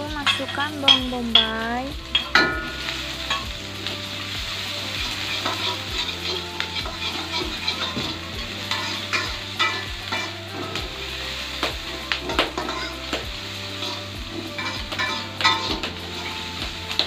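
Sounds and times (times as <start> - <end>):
onions sizzling in a wok: 0.0 - 17.0
utensils scraping and tapping pan: 0.0 - 17.0.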